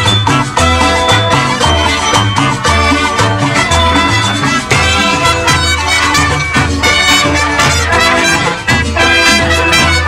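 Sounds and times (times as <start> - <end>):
drum beats: 0.0 - 10.0
marching band playing: 0.0 - 10.0
sousaphone bass line: 0.0 - 10.0.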